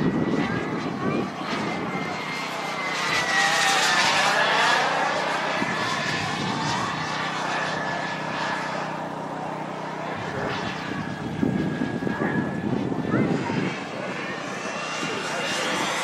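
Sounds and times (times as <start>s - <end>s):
model jet whining past: 0.0s - 16.0s.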